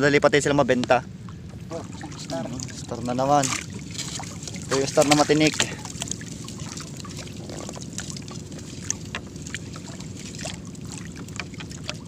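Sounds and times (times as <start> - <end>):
steady low rumble: 0.0 - 12.0
water splashes and drips: 1.7 - 12.0.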